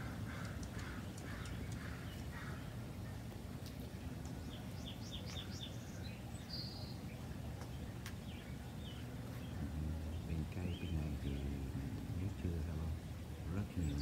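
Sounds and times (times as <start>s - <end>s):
low background rumble: 0.0s - 14.0s
small songbirds chirping: 0.0s - 14.0s.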